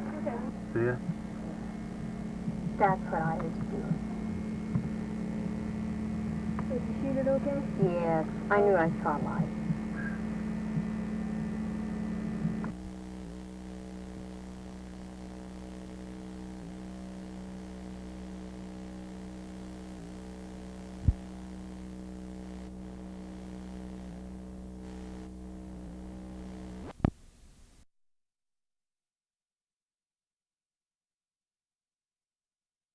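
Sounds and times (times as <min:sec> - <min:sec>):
electrical mains hum: 0:00.0 - 0:27.8.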